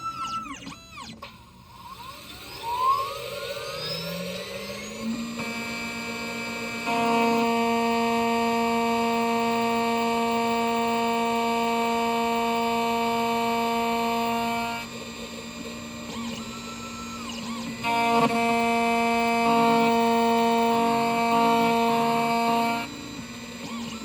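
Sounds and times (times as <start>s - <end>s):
key cutting machine whining: 0.0s - 24.0s.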